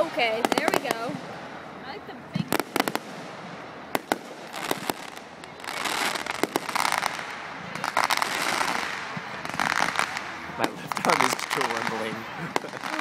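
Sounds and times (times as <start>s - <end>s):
dense fireworks crackling: 0.0s - 13.0s
fireworks popping and banging: 0.0s - 13.0s.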